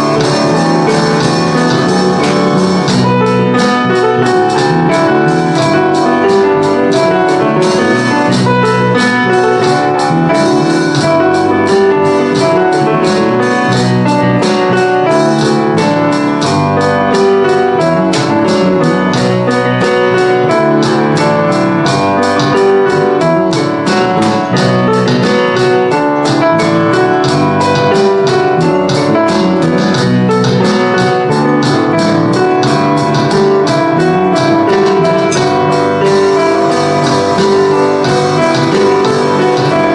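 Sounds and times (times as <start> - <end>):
bass guitar: 0.0 - 39.9
drum beat: 0.0 - 39.9
piano: 0.0 - 39.9.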